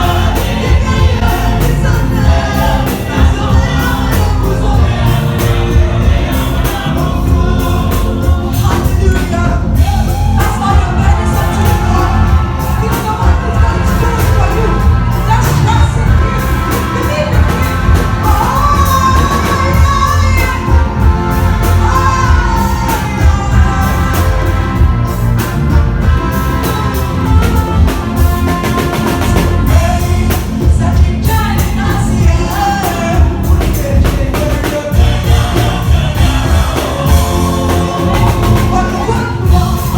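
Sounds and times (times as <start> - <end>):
congregation singing: 0.0 - 39.9
loud music with steady beat: 0.0 - 39.9.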